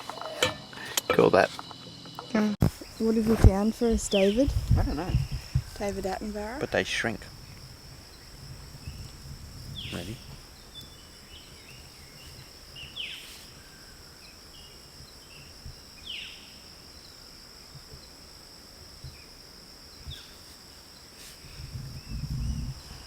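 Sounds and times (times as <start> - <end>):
insect high-pitched trill: 0.0 - 23.0.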